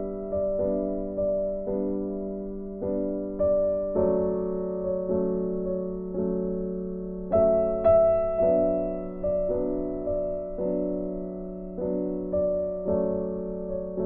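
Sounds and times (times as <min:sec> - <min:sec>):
slow soft piano music: 0:00.0 - 0:14.0.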